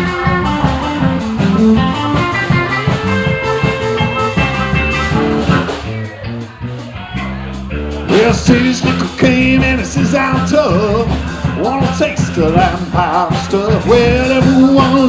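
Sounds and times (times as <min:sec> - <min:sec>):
guitar picking quick runs: 0:00.0 - 0:15.0
steady drum beat: 0:00.0 - 0:15.0.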